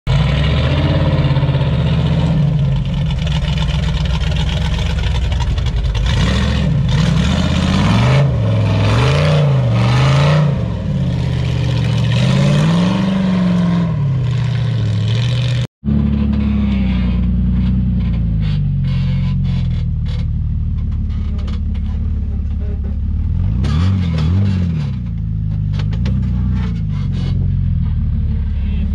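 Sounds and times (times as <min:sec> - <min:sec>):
engines revving under load: 0:00.1 - 0:02.9, 0:05.9 - 0:20.3, 0:20.9 - 0:28.9
engine with steady note: 0:00.1 - 0:28.9.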